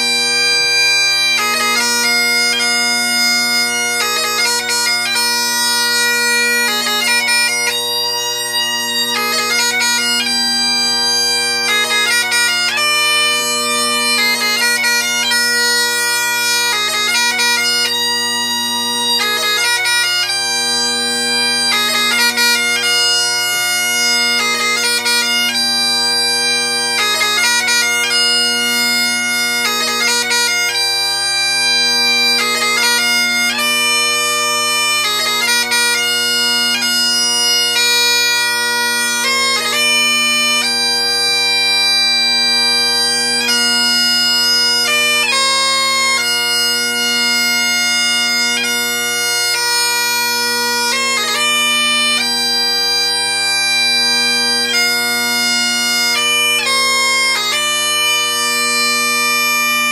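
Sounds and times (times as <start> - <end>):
bagpipe chanter melody: 0.0 - 59.9
bagpipe drones: 0.0 - 59.9.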